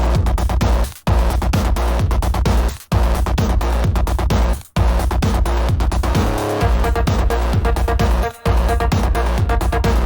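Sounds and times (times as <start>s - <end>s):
industrial techno music: 0.0s - 10.0s.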